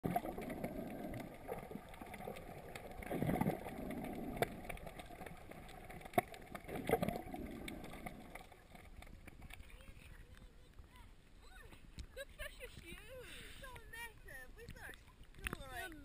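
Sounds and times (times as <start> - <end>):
underwater water sloshing: 0.0 - 16.0.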